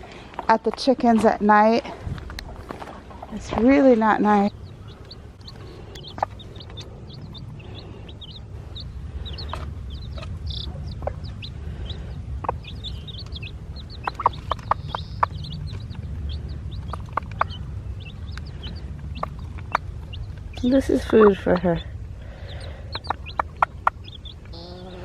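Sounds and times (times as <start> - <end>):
chicks cheeping: 3.0 - 25.0
hen clucking: 3.0 - 25.0.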